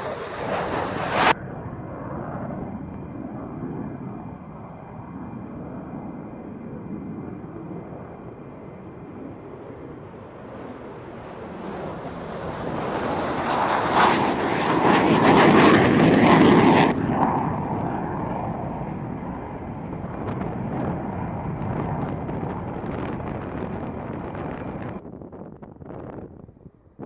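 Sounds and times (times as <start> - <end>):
jet engines on takeoff: 0.0 - 27.0.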